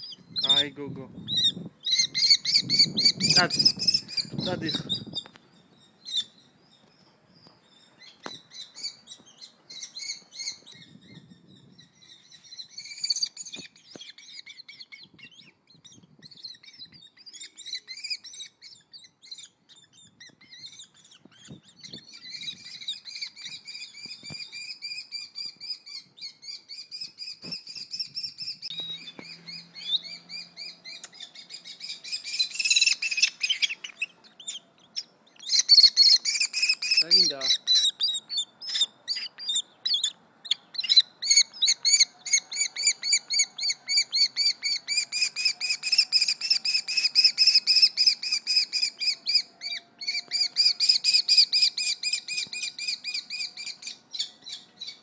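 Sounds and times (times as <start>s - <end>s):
kestrels calling: 0.0s - 55.0s.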